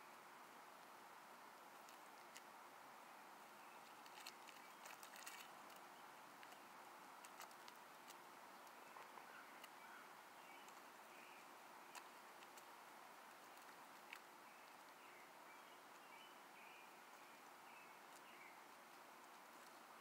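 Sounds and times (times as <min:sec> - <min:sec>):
quiet outdoor hiss: 0:00.0 - 0:20.0
hens scratching and pecking dirt: 0:00.7 - 0:20.0.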